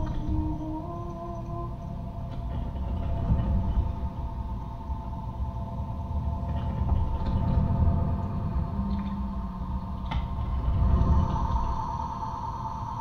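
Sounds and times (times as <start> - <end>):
humming tones: 0.0 - 13.0
low machinery rumble: 0.0 - 13.0.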